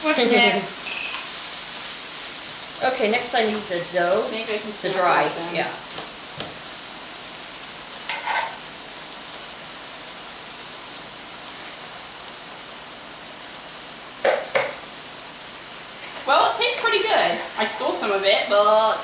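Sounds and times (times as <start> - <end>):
meat filling sizzling in a skillet: 0.0 - 19.0.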